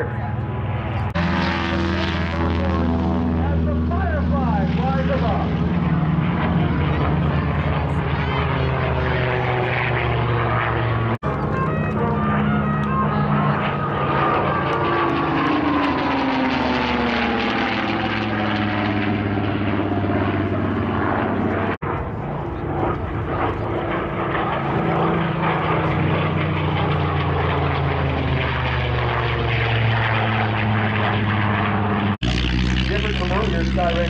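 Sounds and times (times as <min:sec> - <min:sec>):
propeller aircraft engine droning: 0:00.0 - 0:34.0.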